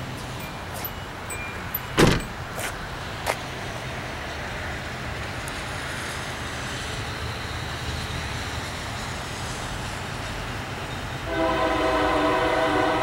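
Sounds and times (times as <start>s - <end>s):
road traffic: 0.0s - 13.0s
tyres hissing on wet pavement: 2.4s - 13.0s.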